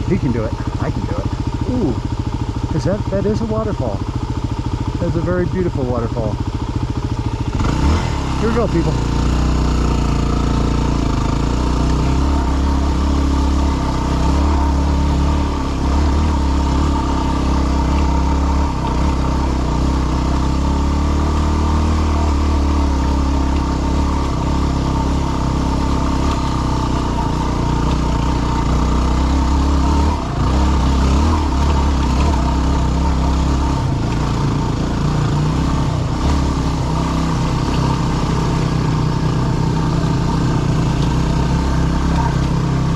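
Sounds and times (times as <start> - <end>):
motorcycle engine running under load: 0.0 - 42.9.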